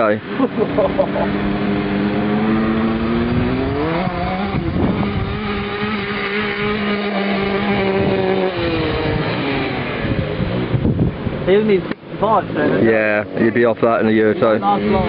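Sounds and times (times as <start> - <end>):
motocross bike engine at high revs: 0.0 - 15.0.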